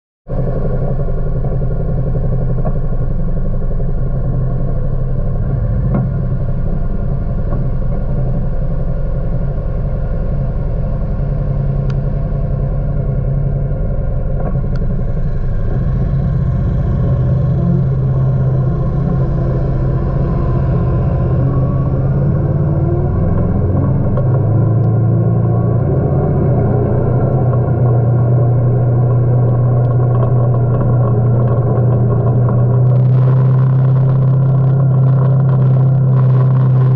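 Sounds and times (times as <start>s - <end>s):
vehicle engine running: 0.3s - 36.9s.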